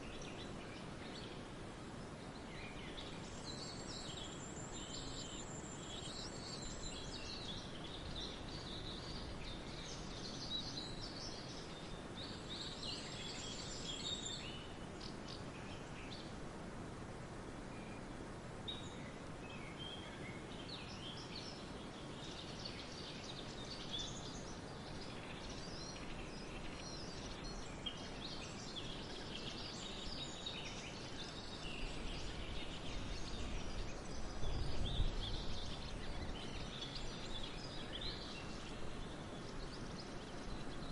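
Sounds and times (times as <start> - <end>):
songbirds singing and chirping: 0.0 - 40.9
steady outdoor hiss: 0.0 - 40.9.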